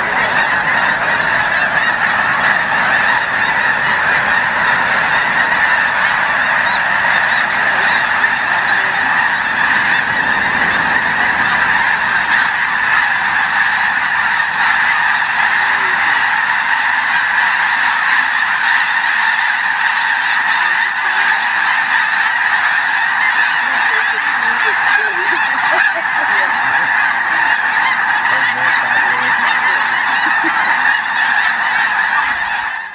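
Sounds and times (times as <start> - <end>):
geese honking: 0.0 - 32.9.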